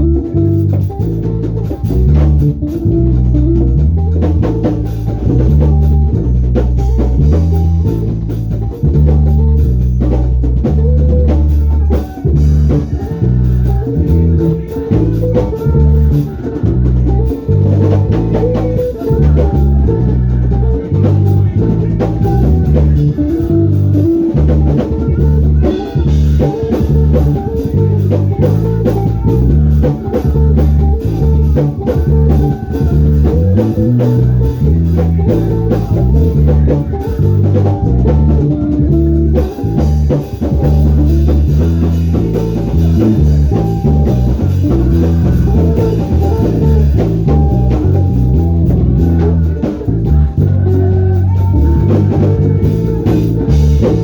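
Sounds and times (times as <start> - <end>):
gospel band music: 0.0 - 54.0
moving bass line: 0.0 - 54.0.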